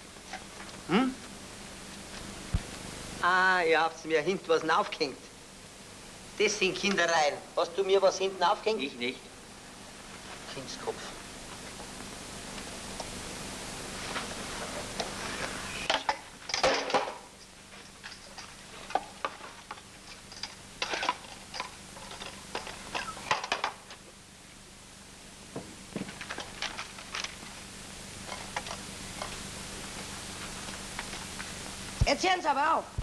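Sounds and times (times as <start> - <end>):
film track hiss and hum: 0.0 - 33.0.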